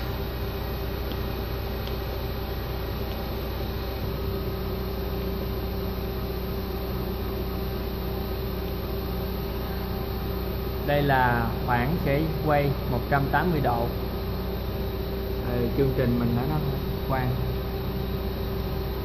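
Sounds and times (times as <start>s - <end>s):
constant machine whine: 0.0s - 19.0s
lathe machine hum: 0.0s - 19.0s.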